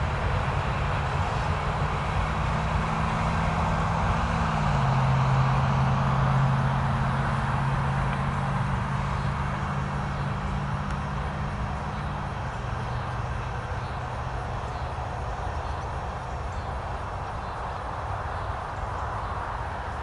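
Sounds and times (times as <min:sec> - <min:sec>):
distant traffic: 0:00.0 - 0:20.0
vehicle engine hum: 0:00.0 - 0:20.0.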